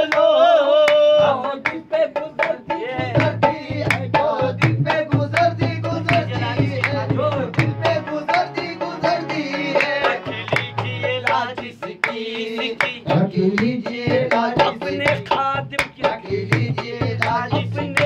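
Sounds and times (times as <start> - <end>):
men singing devotional song: 0.0 - 18.0.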